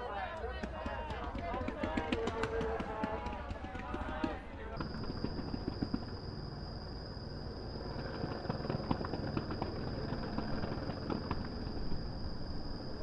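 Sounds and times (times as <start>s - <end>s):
distant fireworks crackling: 0.5s - 13.0s.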